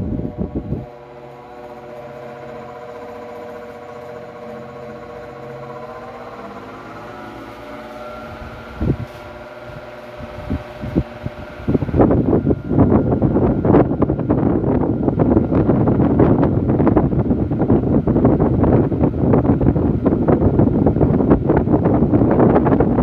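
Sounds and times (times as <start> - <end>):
airflow buffeting microphone: 0.0 - 23.0
wall fan humming: 0.0 - 23.0.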